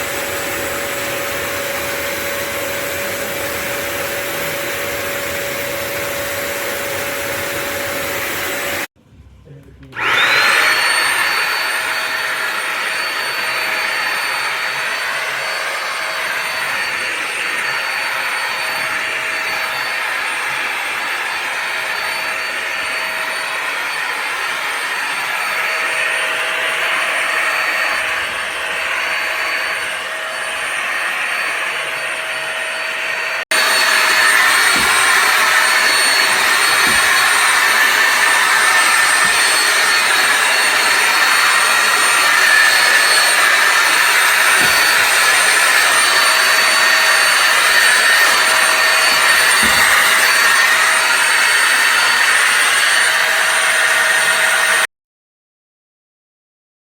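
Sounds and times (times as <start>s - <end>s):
steam mop motor whine: 0.0s - 8.9s, 9.8s - 54.9s.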